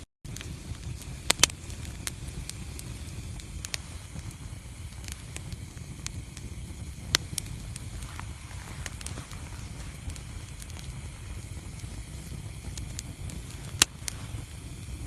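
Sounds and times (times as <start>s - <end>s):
low steady fire rumble: 0.3s - 15.0s
wood fire crackling and popping: 0.3s - 15.0s.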